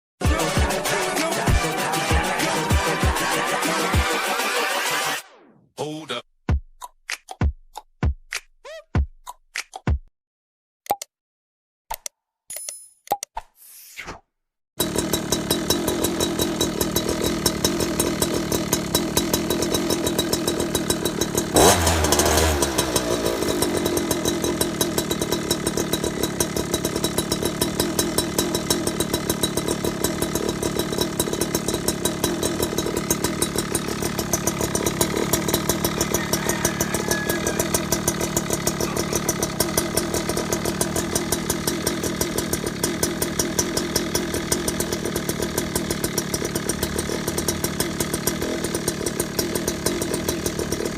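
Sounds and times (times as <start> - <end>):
scooter engine idling and revving: 0.2 - 5.3, 14.8 - 50.9.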